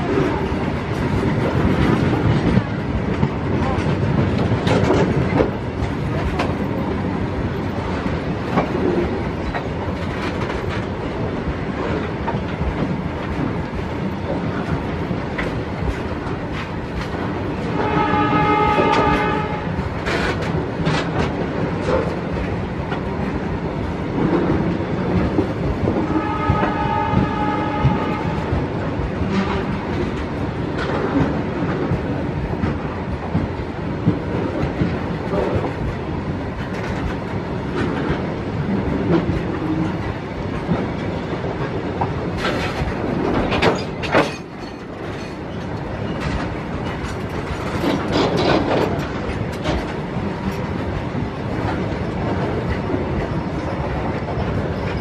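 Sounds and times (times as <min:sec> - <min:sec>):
train wheels clattering on rail joints: 0:00.0 - 0:55.0.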